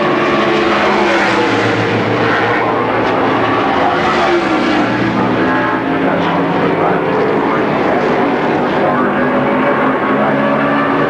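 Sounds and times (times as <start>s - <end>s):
race car engines roaring: 0.0s - 11.0s.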